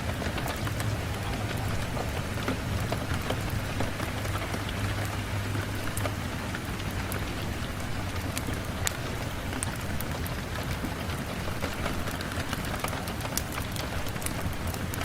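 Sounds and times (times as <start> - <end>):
rain on a window: 0.0 - 15.0.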